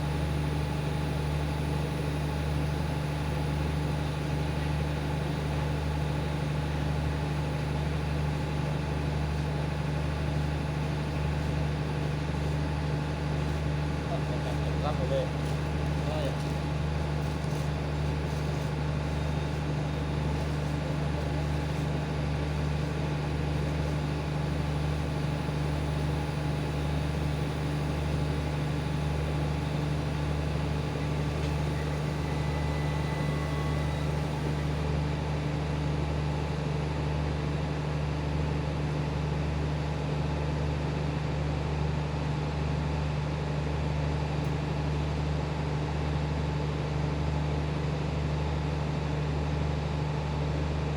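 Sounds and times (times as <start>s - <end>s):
diesel train engine hum: 0.0s - 50.9s.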